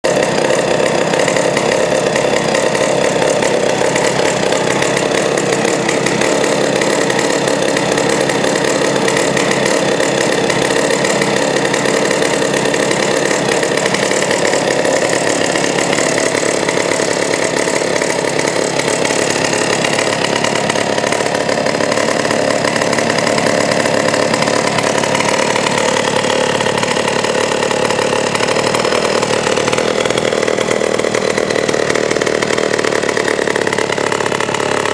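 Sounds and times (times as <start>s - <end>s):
chainsaw running steadily: 0.0s - 34.9s.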